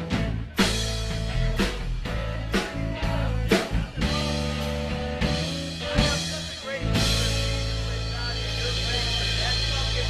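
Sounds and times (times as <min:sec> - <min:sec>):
drum and cymbal hits: 0:00.0 - 0:10.0
live rock band playing: 0:00.0 - 0:10.0.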